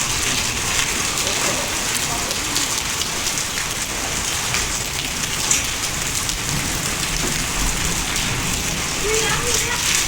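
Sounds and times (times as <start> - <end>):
hail and rain on hard surfaces: 0.0 - 10.0.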